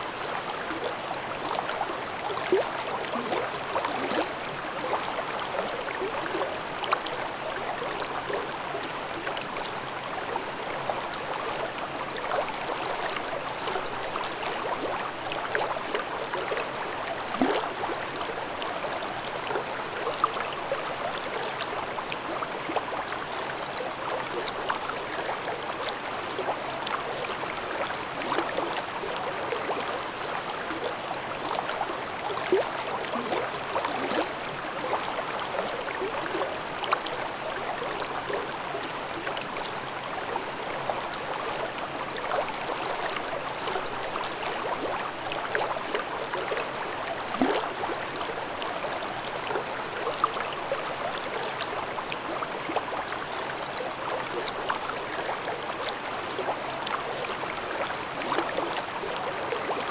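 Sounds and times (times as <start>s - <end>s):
stream water running over rocks: 0.0s - 59.9s.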